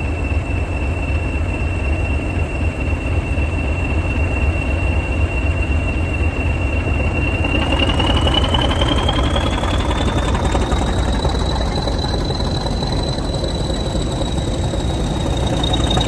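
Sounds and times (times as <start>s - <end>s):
diesel locomotive rumble: 0.0s - 16.0s
high-pitched whine: 0.0s - 16.0s.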